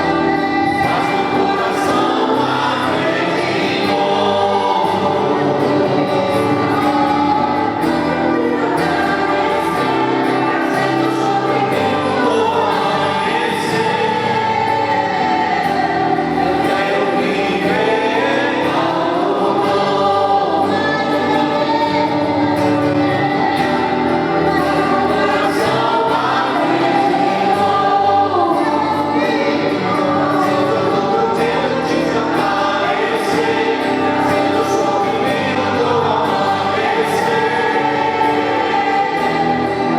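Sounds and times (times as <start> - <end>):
group singing a gospel hymn: 0.0 - 39.9.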